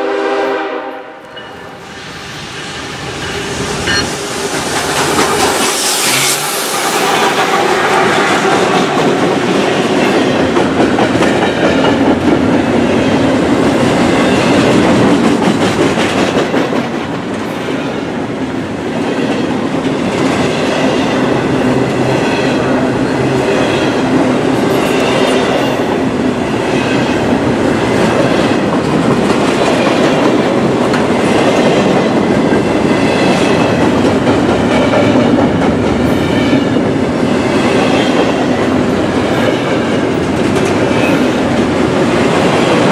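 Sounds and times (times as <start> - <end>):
locomotive passing: 0.1 - 42.9
freight train wheels clattering: 1.3 - 42.9.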